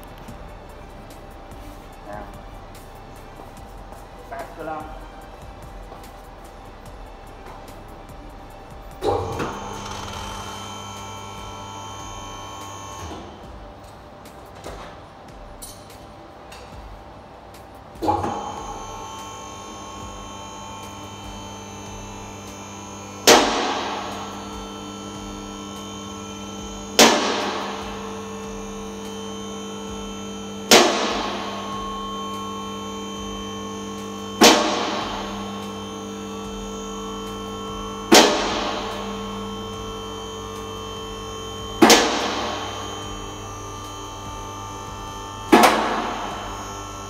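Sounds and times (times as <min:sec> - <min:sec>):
hydraulic pump motor humming: 0:00.0 - 0:15.6, 0:18.0 - 0:47.0.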